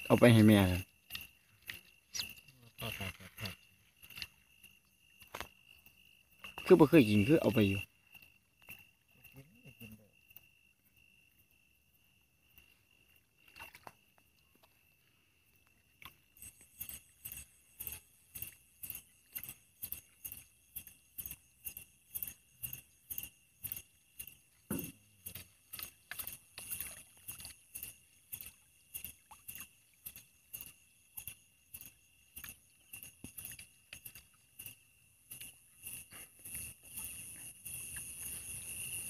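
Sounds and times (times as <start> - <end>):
night insects chirring: 0.0 - 39.0.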